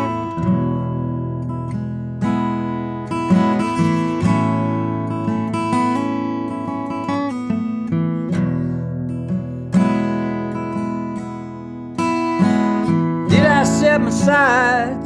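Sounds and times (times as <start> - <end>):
acoustic guitar chords strummed: 0.0 - 15.0.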